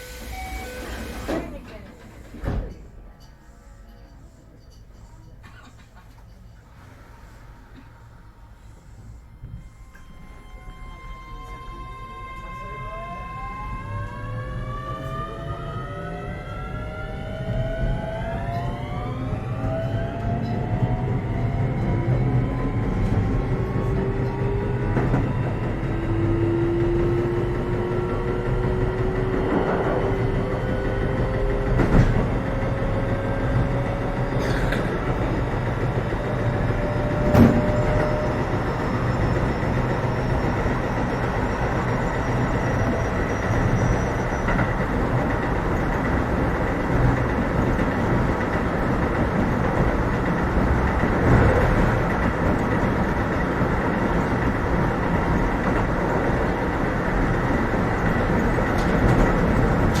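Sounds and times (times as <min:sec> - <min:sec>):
train wheels rumbling on rails: 0:11.4 - 1:00.0.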